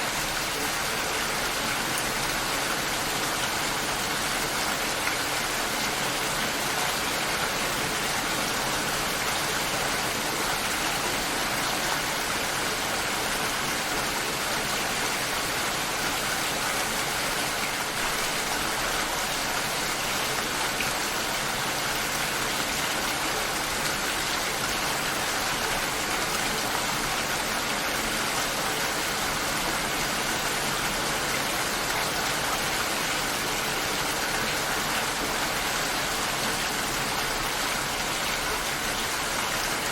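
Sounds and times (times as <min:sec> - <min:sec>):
steady rain shower: 0:00.0 - 0:39.9.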